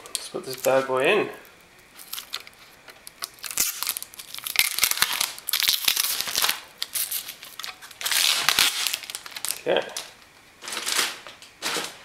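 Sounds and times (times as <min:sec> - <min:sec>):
crinkly rustling: 0:00.4 - 0:12.0.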